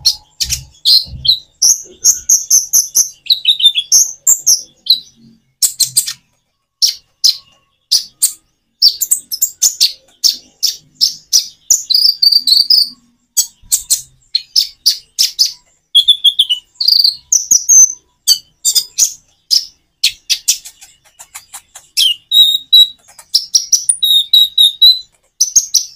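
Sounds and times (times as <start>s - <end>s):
sunbird chirping and trilling: 0.0s - 25.9s.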